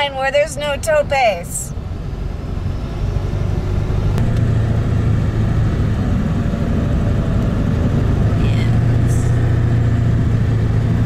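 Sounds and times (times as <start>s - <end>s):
road and tyre noise: 0.0s - 11.0s
low engine drone: 0.3s - 11.0s.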